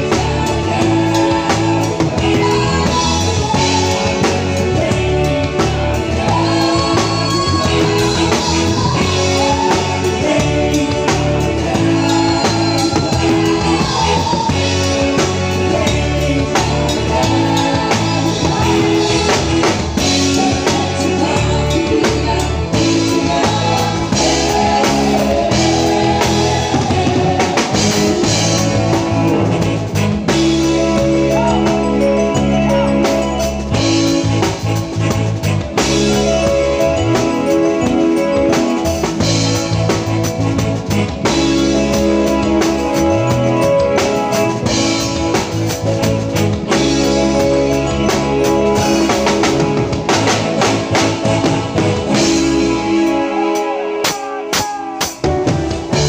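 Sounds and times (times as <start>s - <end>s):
person singing: 0.0s - 40.2s, 46.7s - 56.0s
drum kit: 0.0s - 56.0s
guitar: 0.0s - 56.0s
live band playing: 0.0s - 56.0s.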